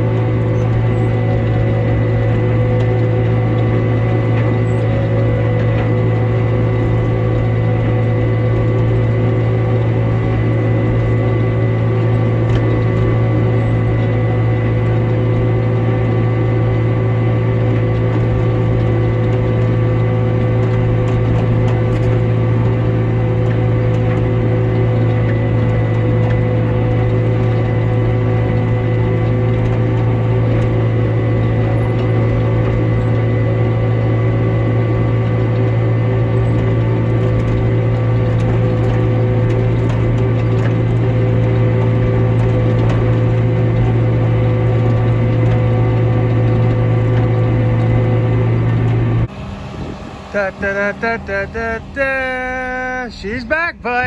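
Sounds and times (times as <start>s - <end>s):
gear whine: 0.0s - 54.0s
tractor engine drone: 0.0s - 54.0s.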